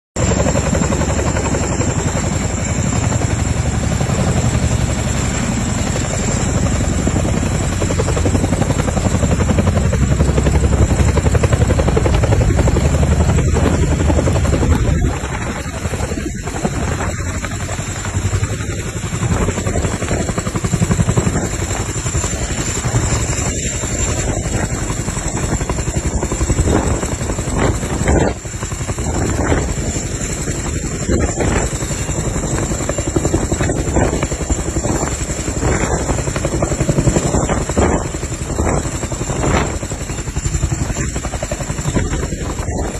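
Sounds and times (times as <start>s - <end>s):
helicopter rotor chopping: 0.2s - 42.9s.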